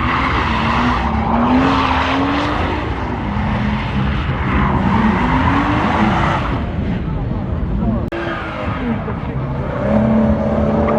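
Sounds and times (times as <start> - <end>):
car engine at high revs: 0.0 - 10.9.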